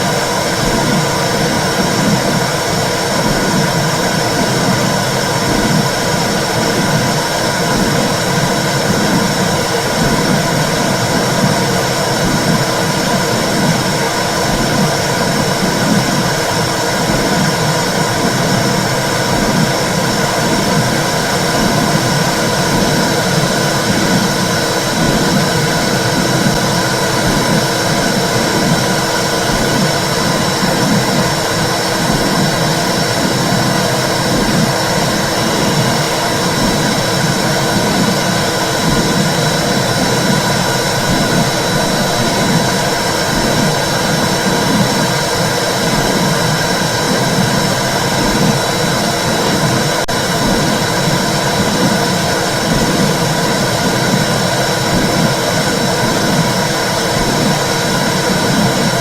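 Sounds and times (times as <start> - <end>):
low whooshing womb noise: 0.0 - 59.0.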